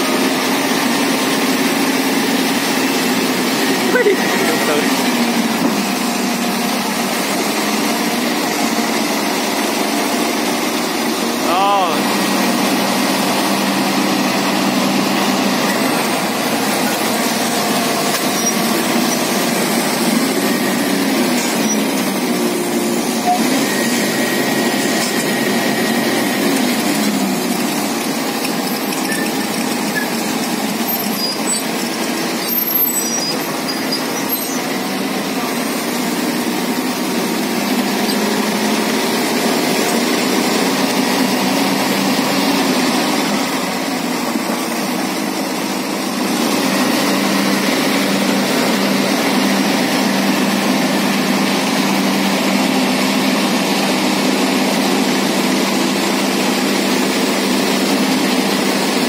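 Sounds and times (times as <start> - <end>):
excavator diesel engines under load: 0.0 - 59.0.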